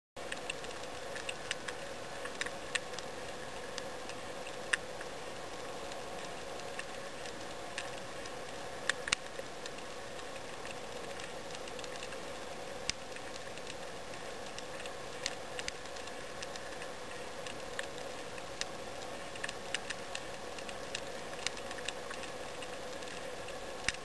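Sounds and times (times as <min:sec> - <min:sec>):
steady underwater hiss: 0:00.2 - 0:24.0.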